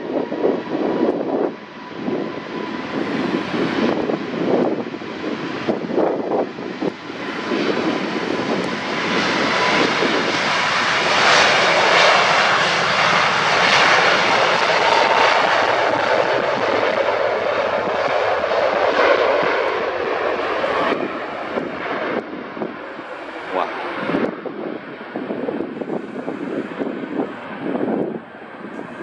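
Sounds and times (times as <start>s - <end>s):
jet airliner taking off: 0.0s - 29.0s.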